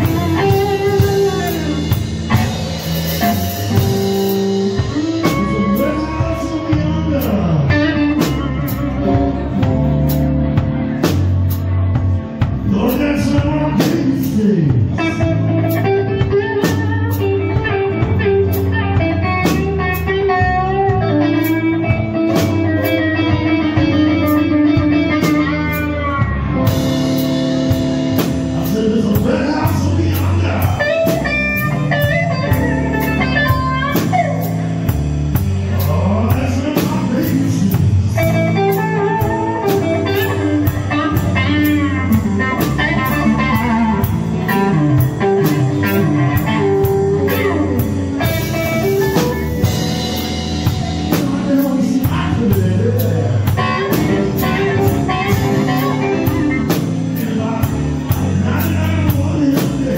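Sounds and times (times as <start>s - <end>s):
bass guitar: 0.0s - 59.9s
electric guitar bending notes: 0.0s - 59.9s.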